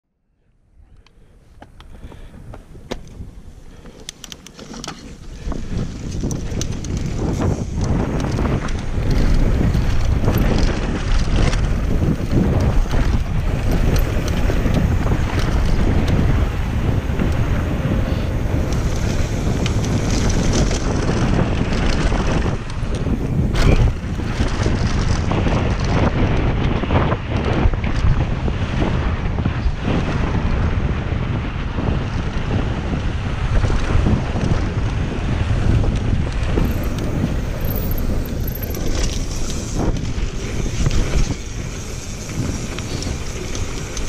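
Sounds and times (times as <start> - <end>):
wind buffeting microphone: 0.8 - 44.0
tyres on loose dirt: 1.5 - 27.6, 33.0 - 44.0
bike rattling over bumps: 2.0 - 44.0.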